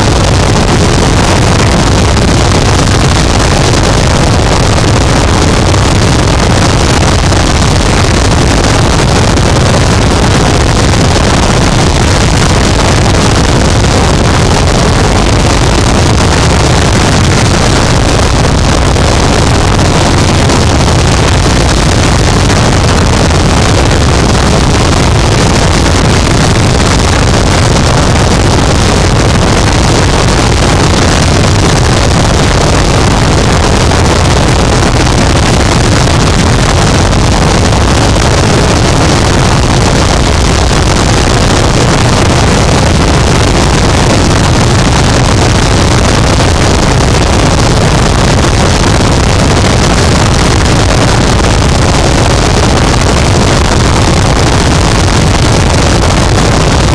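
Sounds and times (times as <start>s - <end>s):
loud static noise wall: 0.0s - 56.9s.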